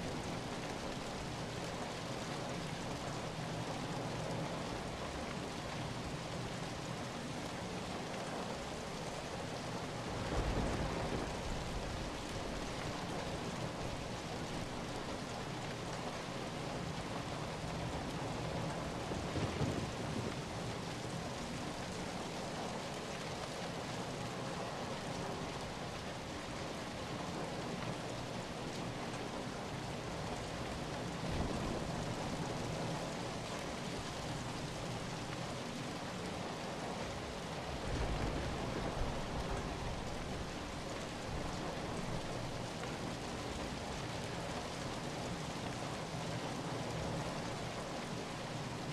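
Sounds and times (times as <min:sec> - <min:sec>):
steady rain hissing: 0:00.0 - 0:48.9.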